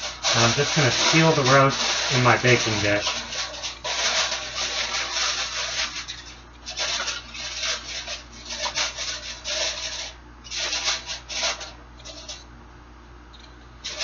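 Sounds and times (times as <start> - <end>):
aluminum foil crinkling: 0.0 - 12.4.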